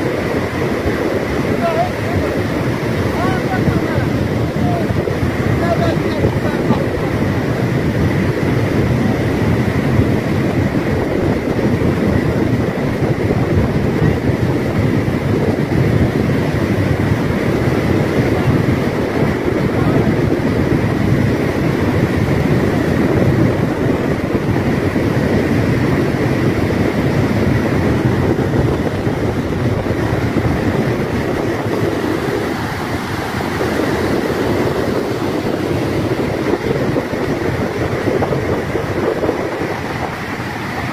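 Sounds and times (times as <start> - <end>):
swollen river rushing: 0.0 - 40.9.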